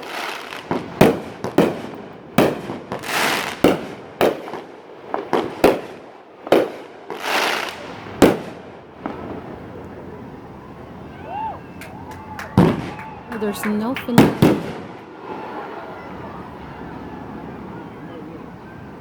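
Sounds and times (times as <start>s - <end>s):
fireworks hissing: 0.0s - 11.1s, 12.6s - 16.7s
fireworks banging: 0.0s - 17.7s.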